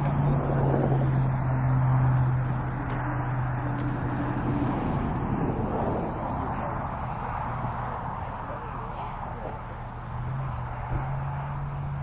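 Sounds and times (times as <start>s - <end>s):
road rush: 0.0s - 12.0s
vehicle engine hum: 0.0s - 12.0s.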